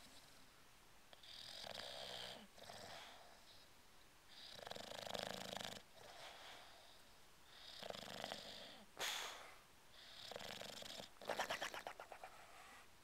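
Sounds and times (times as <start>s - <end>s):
dog snoring: 1.1s - 3.6s, 4.3s - 9.4s, 10.0s - 12.8s.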